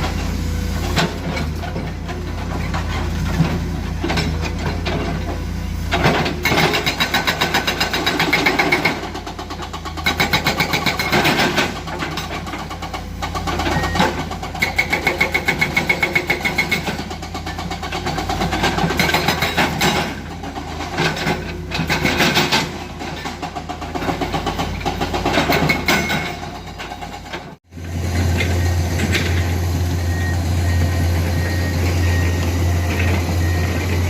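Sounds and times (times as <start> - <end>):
excavator diesel engine working: 0.0 - 34.0.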